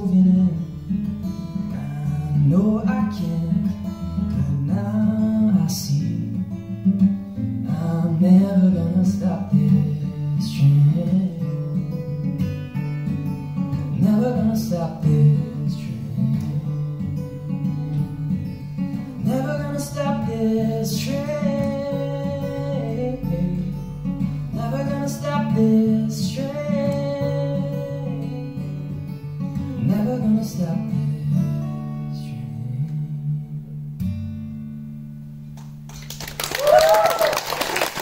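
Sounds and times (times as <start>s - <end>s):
man singing: 0.0s - 6.6s, 7.6s - 11.9s, 13.7s - 33.8s
acoustic guitar playing: 0.0s - 36.3s.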